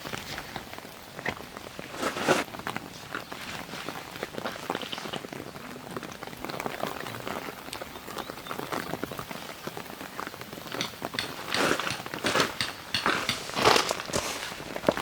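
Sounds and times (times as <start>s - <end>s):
rain falling on a surface: 0.0s - 12.3s.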